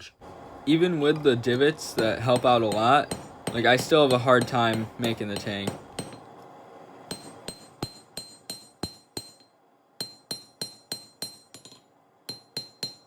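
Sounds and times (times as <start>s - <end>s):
hammer striking steel on anvil: 1.1s - 6.3s, 7.1s - 13.0s.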